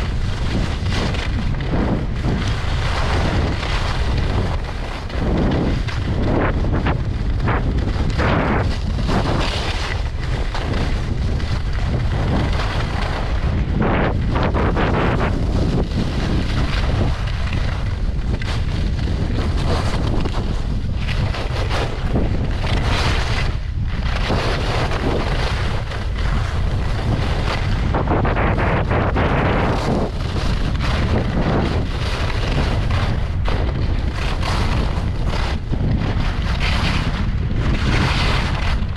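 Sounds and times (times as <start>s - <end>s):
skis scraping on snow: 0.0s - 38.9s
wind buffeting microphone: 0.0s - 38.9s.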